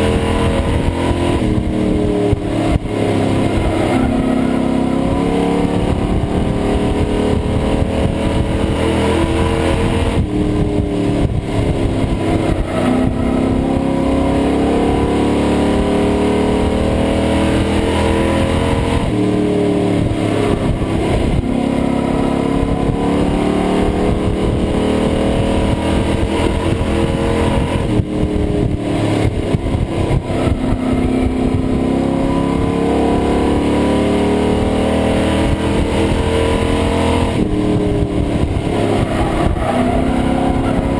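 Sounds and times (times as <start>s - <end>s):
race engine revving hard: 0.0s - 40.9s.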